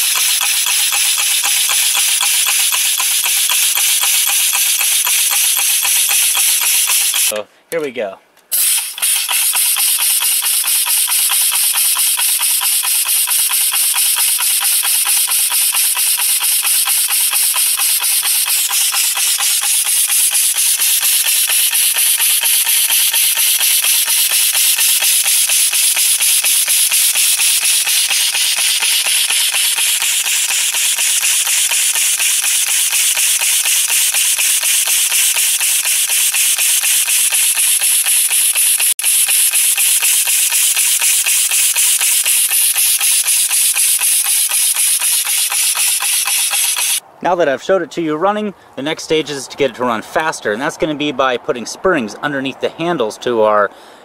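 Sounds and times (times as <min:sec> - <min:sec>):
air engine hissing puffs: 0:00.0 - 0:07.6, 0:08.5 - 0:47.0.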